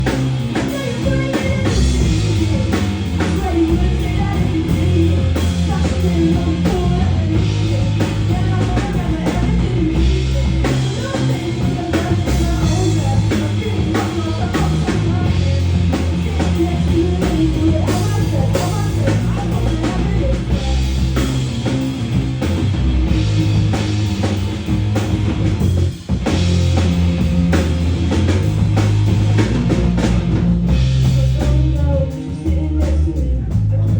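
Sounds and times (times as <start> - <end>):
heavy bass line: 0.0 - 33.9
rock band playing: 0.0 - 33.9.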